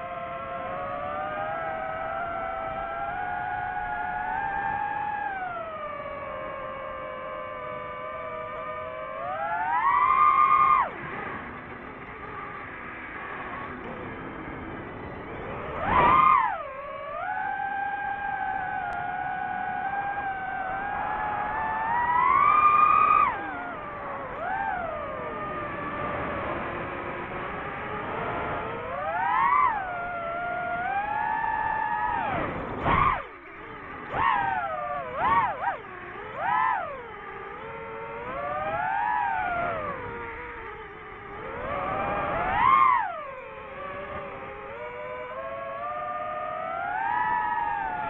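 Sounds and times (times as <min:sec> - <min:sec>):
drone propellers whining: 0:00.0 - 0:48.0.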